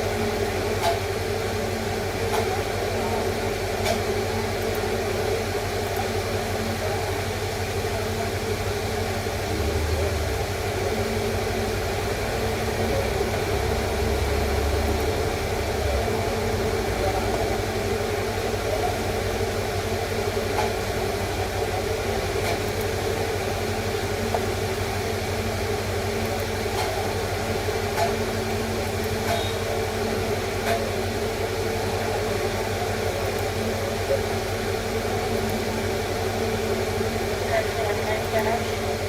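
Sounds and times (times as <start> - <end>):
machine hum with low rumble: 0.0 - 39.0.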